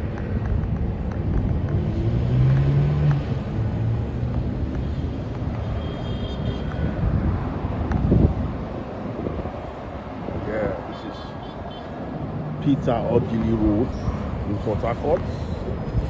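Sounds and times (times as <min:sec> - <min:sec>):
vehicles running along street: 0:00.0 - 0:16.0.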